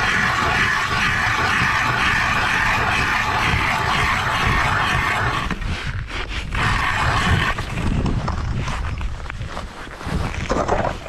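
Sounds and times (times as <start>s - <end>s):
ice auger grinding ice: 0.0s - 9.0s.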